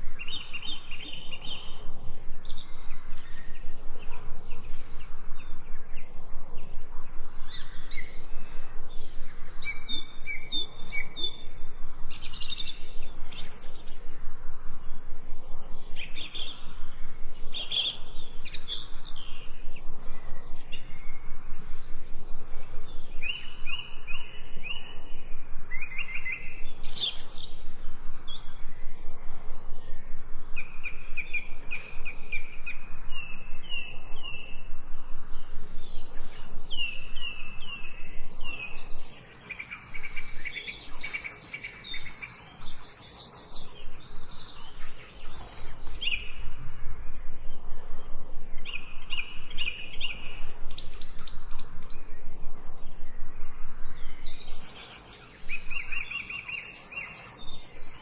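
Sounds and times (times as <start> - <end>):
forest birds singing: 0.0 - 58.0.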